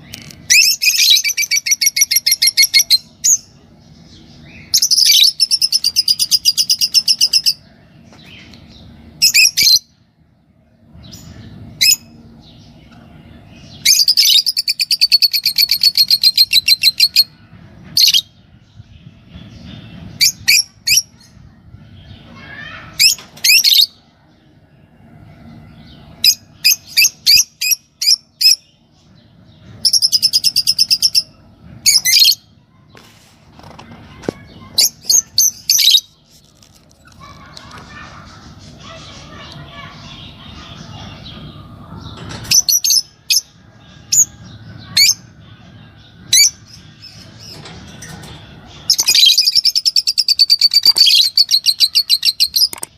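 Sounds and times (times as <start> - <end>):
birds chirping rapidly: 0.0 - 52.9.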